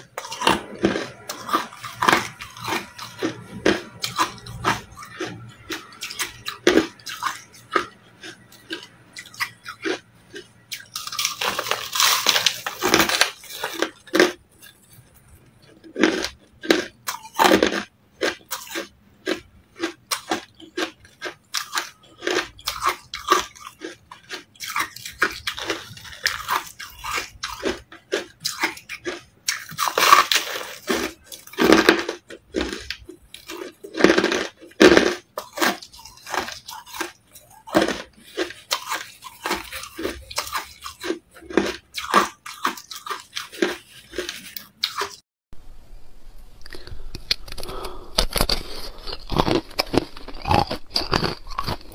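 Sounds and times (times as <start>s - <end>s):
ice being chewed: 0.0s - 45.2s, 46.6s - 51.9s.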